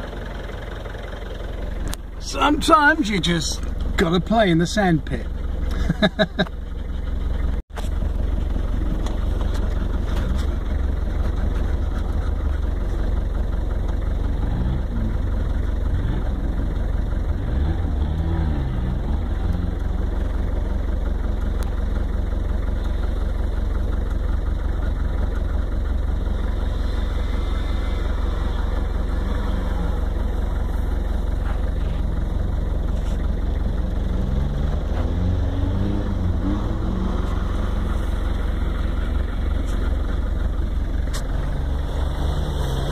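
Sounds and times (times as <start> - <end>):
off-road engine revving: 0.0 - 42.9.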